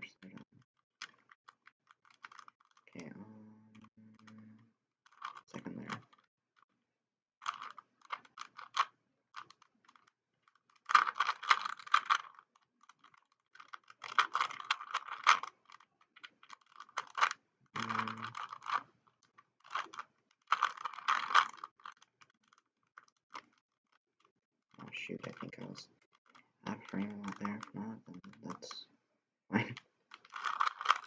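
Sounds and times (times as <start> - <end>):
puzzle cube plastic clicking: 1.0 - 6.3, 7.4 - 28.8, 29.6 - 31.0.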